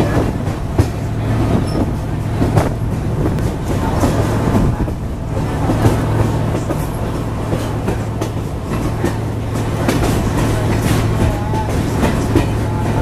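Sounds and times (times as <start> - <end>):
train rumbling along track: 0.0 - 13.0
wheels clicking on rails: 0.0 - 13.0.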